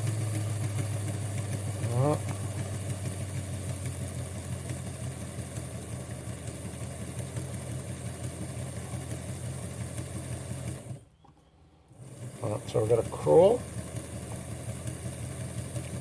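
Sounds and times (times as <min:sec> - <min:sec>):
small electric motor humming: 0:00.0 - 0:11.0, 0:11.9 - 0:16.0.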